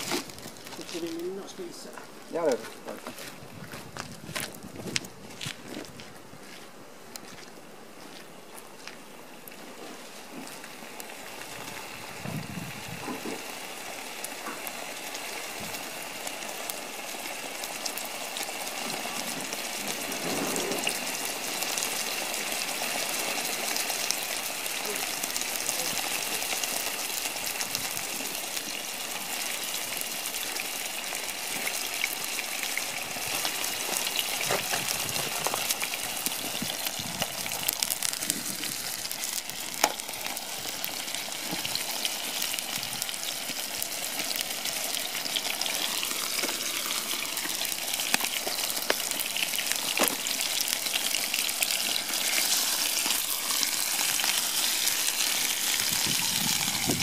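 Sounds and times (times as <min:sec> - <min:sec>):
steak sizzling in hot oil: 0:00.0 - 0:01.8, 0:10.1 - 0:57.0.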